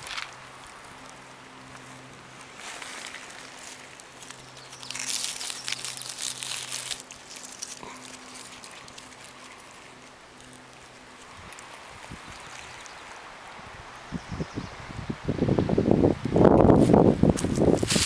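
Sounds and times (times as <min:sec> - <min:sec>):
dry leaves rustling and crackling: 0:00.0 - 0:14.0, 0:16.4 - 0:18.0.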